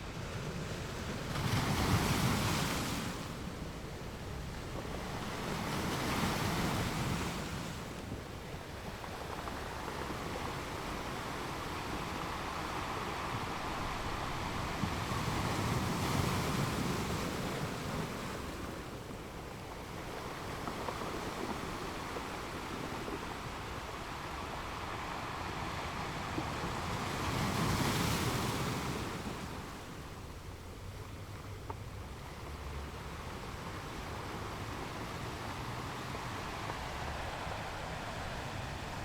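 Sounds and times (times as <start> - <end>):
sea waves surging: 0.0 - 39.0.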